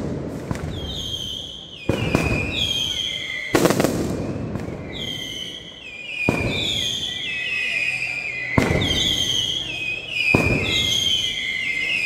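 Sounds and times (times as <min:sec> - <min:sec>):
firecracker bangs: 0:00.0 - 0:12.0
whistling fireworks: 0:00.0 - 0:12.0.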